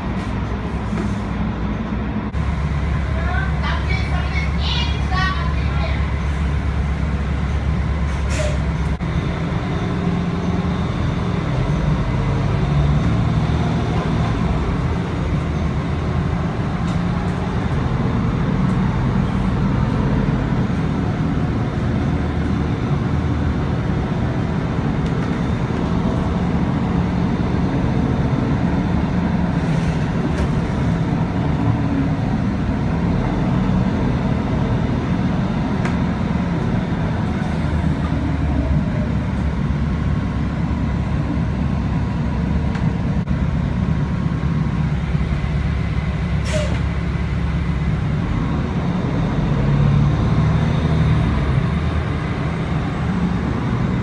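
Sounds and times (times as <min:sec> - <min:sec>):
vehicle low rumble: 0:00.0 - 0:54.0.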